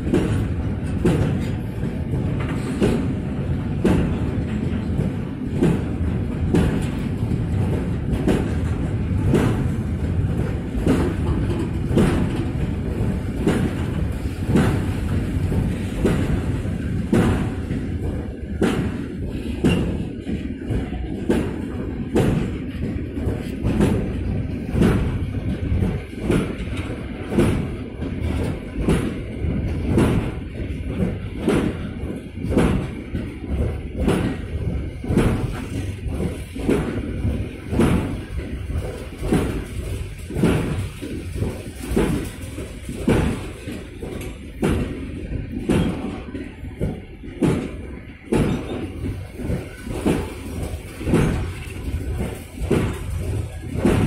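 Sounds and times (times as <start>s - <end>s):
train wheels clattering on track: 0.0s - 54.0s.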